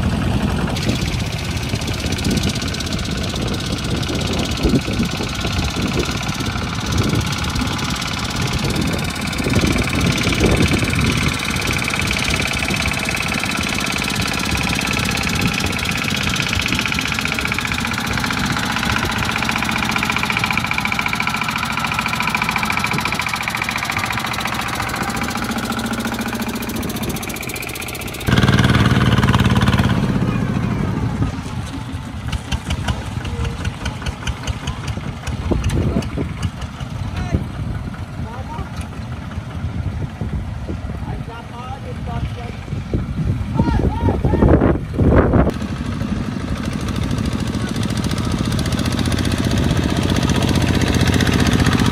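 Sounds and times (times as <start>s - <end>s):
diesel tractor engine under load: 0.0s - 51.9s.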